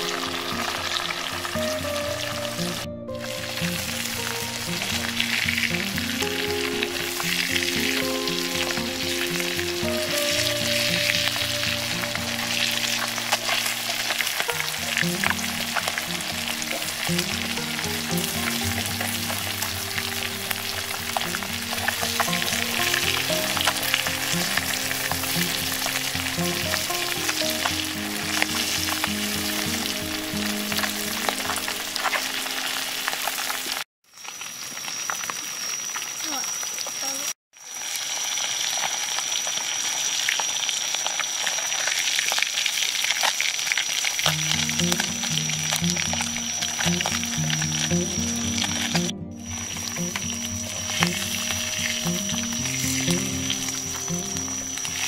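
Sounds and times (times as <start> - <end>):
fish frying in hot oil: 0.0 - 55.0.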